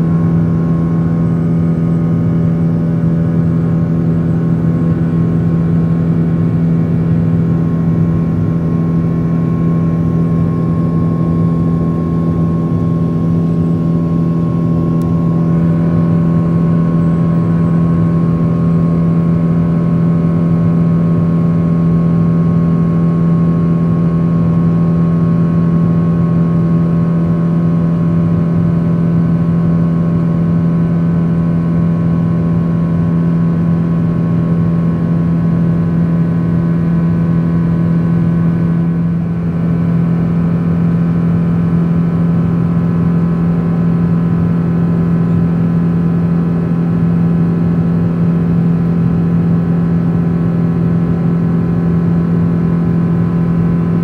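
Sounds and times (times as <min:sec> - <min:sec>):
jet engines droning in cabin: 0:00.0 - 0:54.0.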